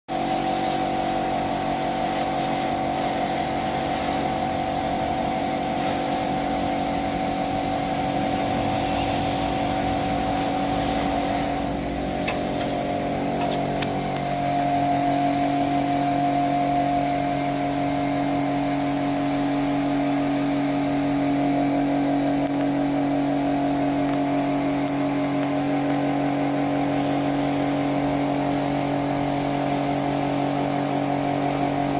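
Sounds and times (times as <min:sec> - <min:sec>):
motor humming: 0:03.9 - 0:31.9.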